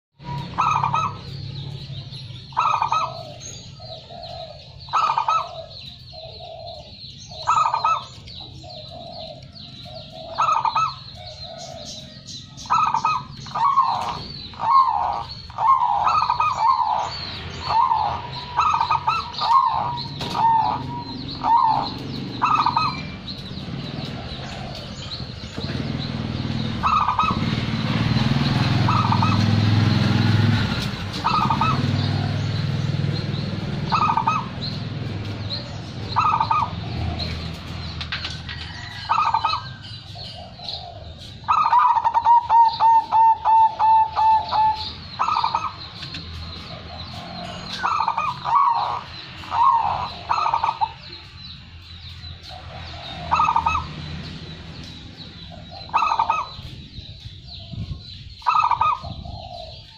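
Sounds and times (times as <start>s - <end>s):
dove cooing: 0.2s - 59.9s.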